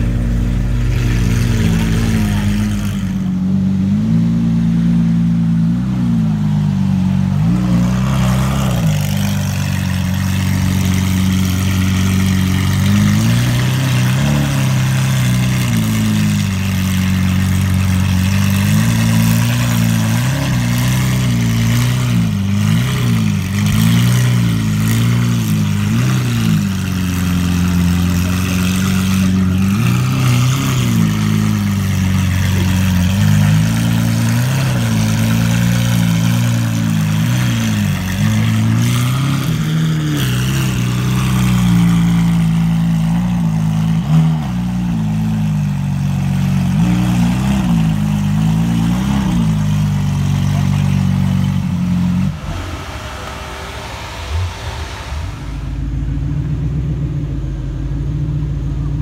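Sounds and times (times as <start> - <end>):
car engine idling: 0.0 - 59.0
engine revving lightly: 0.0 - 59.0.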